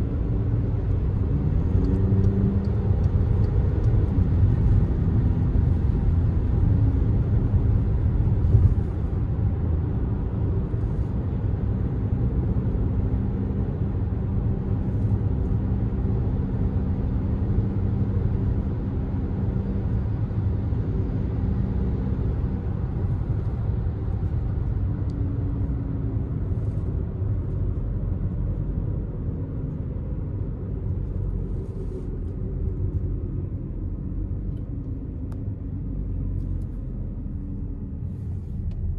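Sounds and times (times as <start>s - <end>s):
car engine drone: 0.0s - 38.9s.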